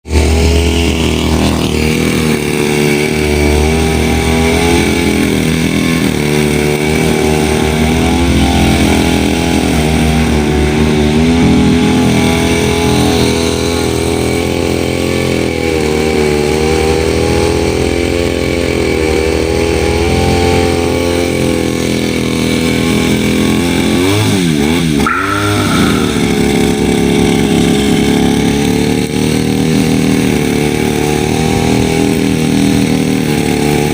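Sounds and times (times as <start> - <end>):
grass-cutter engine running: 0.1 - 24.9, 28.1 - 33.9.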